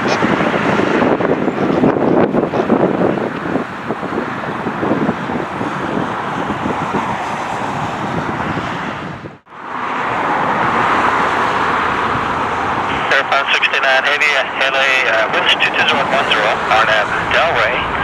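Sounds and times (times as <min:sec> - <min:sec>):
wind on microphone: 0:00.0 - 0:13.2, 0:14.6 - 0:18.0
jet engines roaring: 0:00.0 - 0:18.0.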